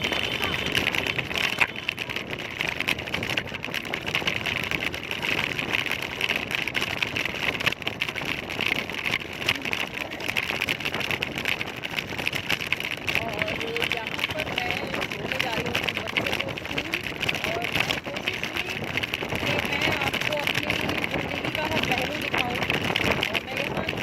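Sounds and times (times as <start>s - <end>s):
motor scooter engine running: 0.0s - 24.0s
road and wind noise: 0.0s - 24.0s.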